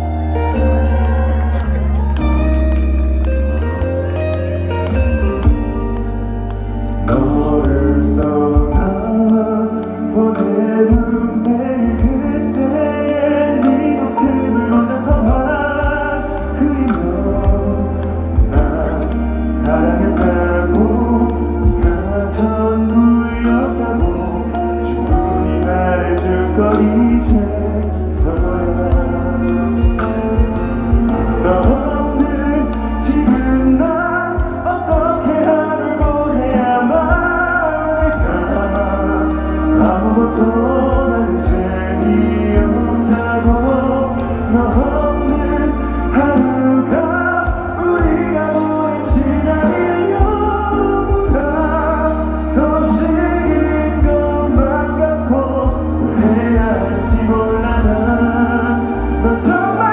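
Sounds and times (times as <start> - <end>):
bass line: 0.0 - 59.9
live pop band through speakers: 0.0 - 59.9
person singing: 0.0 - 59.9.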